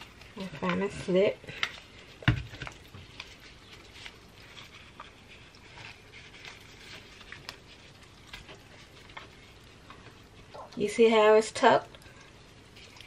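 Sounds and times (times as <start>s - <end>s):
gloved hands handling raw chicken: 0.0s - 13.0s.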